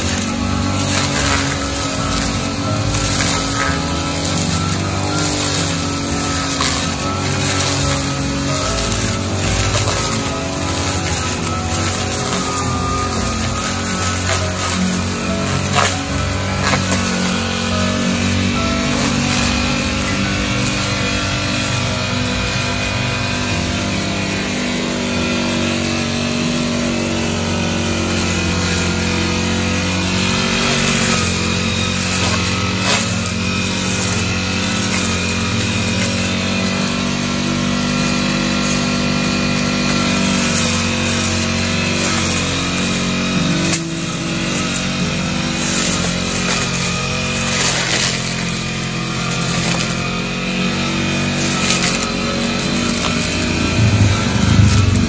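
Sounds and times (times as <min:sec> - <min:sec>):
brush cutter engine cutting grass: 0:00.0 - 0:55.0.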